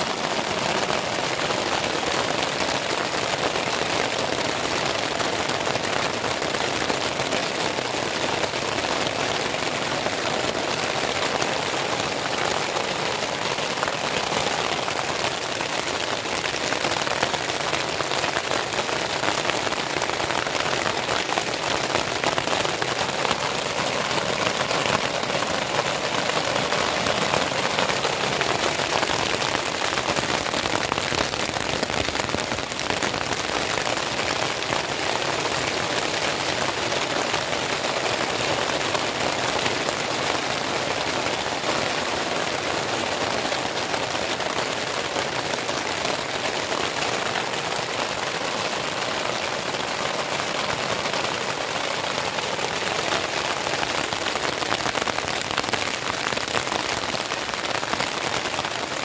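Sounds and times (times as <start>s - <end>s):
rain on plastic tarp: 0.0s - 59.0s.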